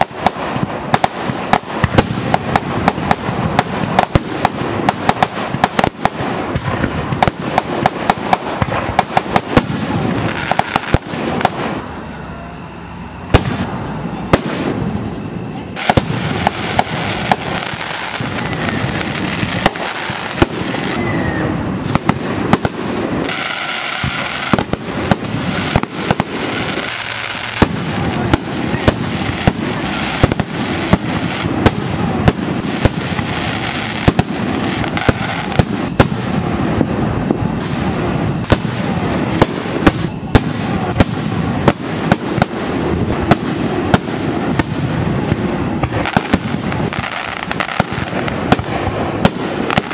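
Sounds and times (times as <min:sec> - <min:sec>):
fireworks bursting with sharp bangs: 0:00.0 - 0:49.9
fireworks crackle: 0:00.0 - 0:49.9.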